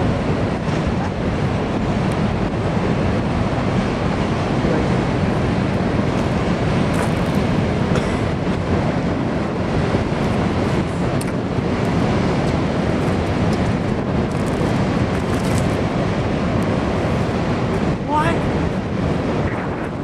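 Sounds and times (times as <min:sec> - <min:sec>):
freight cars rumbling on rails: 0:00.0 - 0:20.0.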